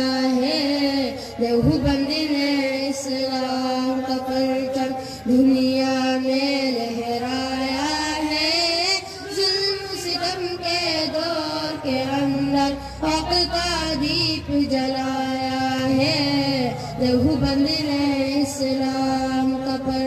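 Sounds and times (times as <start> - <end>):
boys singing devotional song: 0.0 - 20.0.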